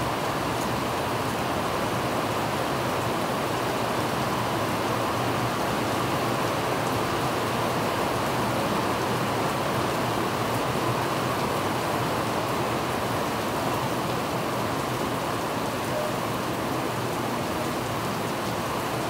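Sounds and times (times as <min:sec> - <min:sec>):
heavy rain pouring on trees: 0:00.0 - 0:19.0.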